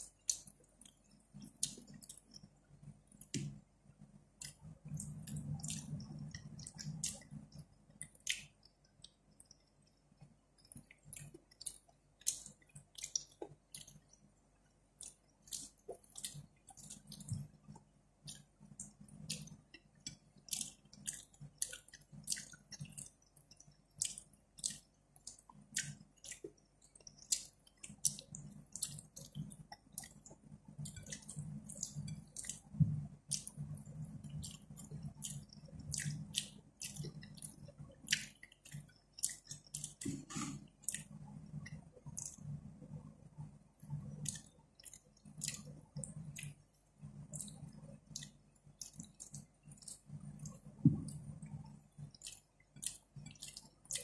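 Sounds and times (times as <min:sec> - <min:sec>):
wet squelching chewing: 0:00.0 - 0:03.6, 0:04.4 - 0:43.1, 0:43.8 - 0:54.0.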